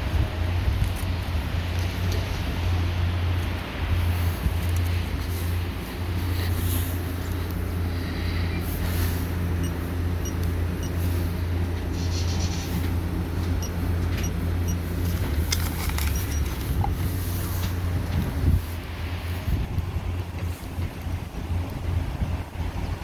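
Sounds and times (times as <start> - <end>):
car wash machine humming: 0.0 - 22.3.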